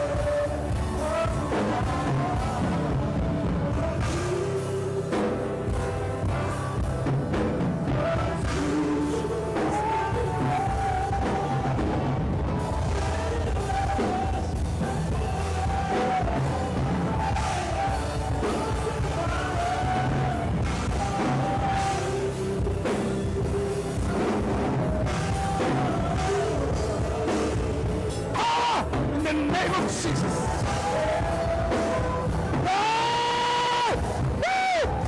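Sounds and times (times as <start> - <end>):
drum kit: 0.0 - 35.0.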